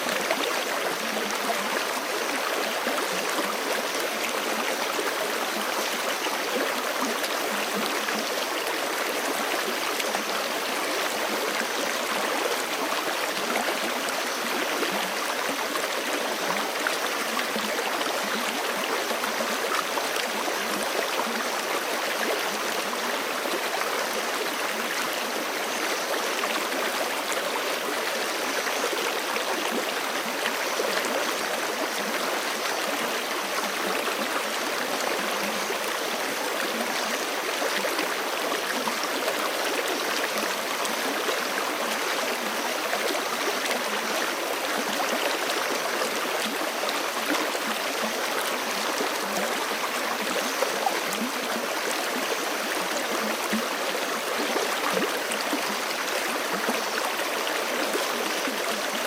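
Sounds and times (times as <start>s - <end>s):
creek flowing over rocks: 0.0s - 59.0s.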